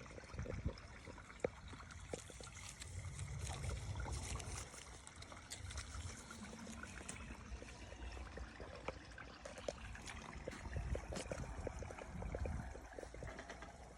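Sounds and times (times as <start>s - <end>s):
stream trickling and babbling: 0.0s - 13.9s.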